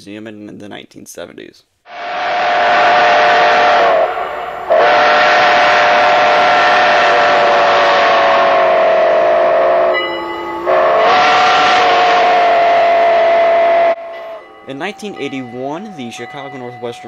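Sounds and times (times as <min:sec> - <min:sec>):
steam whistle blasts: 0:01.9 - 0:16.2.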